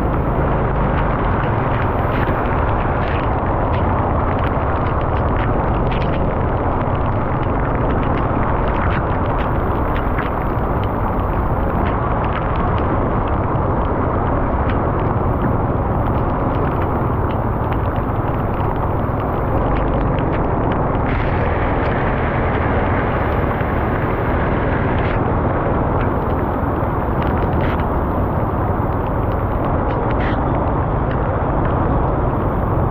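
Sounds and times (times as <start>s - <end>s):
motorbike engine and road noise: 0.0s - 32.9s
raindrops hitting camera: 0.0s - 32.9s
wind rush: 0.0s - 32.9s.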